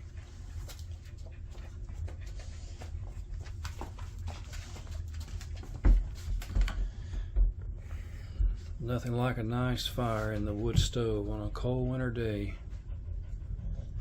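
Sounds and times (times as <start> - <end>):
kindling crackling in wood stove: 0.0 - 14.0.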